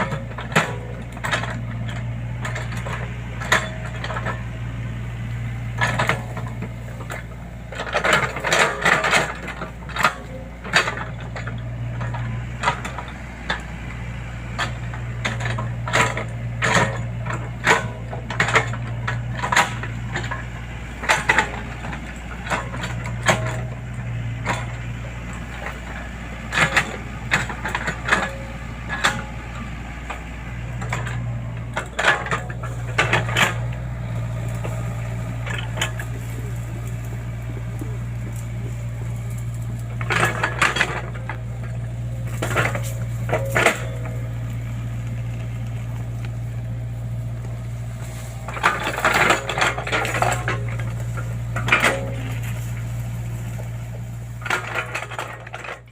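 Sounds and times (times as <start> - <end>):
diesel engine running: 0.0 - 55.9
metallic clanking and rattling: 0.0 - 55.9.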